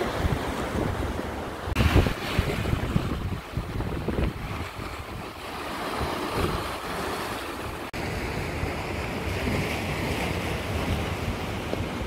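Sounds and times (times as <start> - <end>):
waves breaking over rocks: 0.0 - 12.0
wind buffeting microphone: 0.0 - 12.0.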